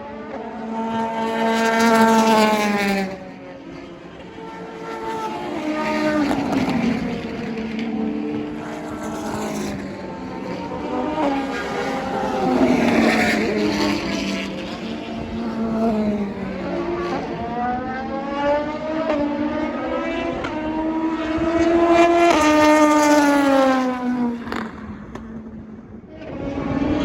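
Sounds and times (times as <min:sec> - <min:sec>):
race car engines at speed: 0:00.0 - 0:27.0.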